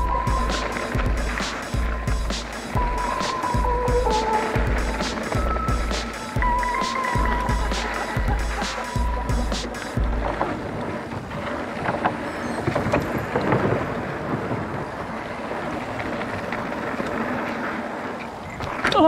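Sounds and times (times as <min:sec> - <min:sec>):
bike tyres on dirt and gravel: 0:00.0 - 0:19.0
wind buffeting microphone: 0:00.0 - 0:19.0.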